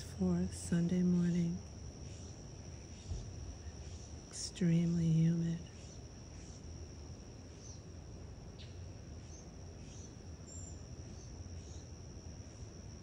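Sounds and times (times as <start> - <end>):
insects trilling: 0.0 - 13.0
low background hum: 0.0 - 13.0.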